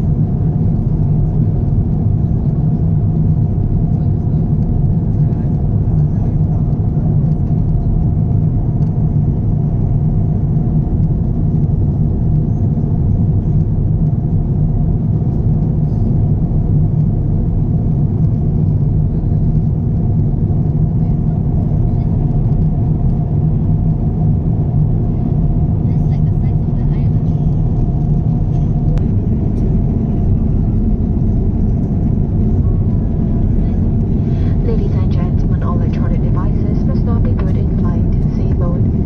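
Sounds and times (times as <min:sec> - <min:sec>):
airliner cabin engine rumble: 0:00.0 - 0:39.0.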